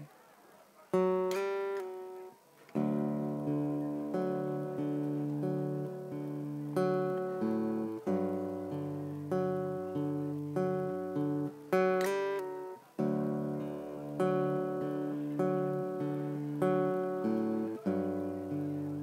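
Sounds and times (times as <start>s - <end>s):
acoustic guitar strumming chords: 0.9s - 19.0s.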